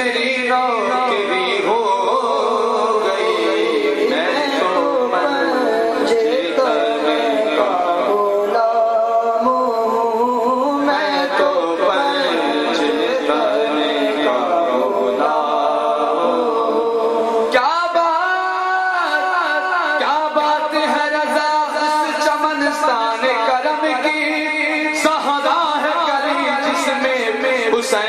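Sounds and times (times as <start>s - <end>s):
man singing ornamented phrases: 0.0s - 28.0s.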